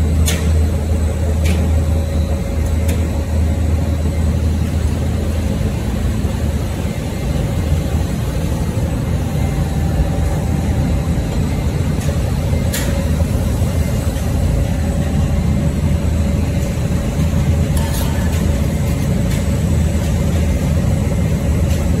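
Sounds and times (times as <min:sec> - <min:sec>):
machine low hum: 0:00.0 - 0:22.0
machine steady whine: 0:00.0 - 0:22.0.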